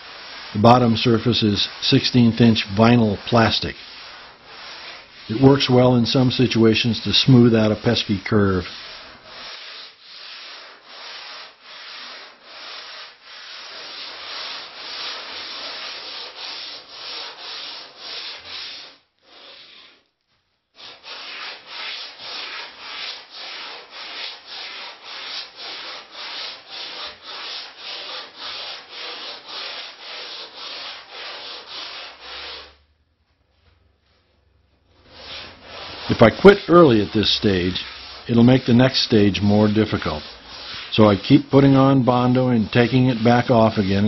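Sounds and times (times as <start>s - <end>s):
hand sanding strokes: 0.0s - 44.0s.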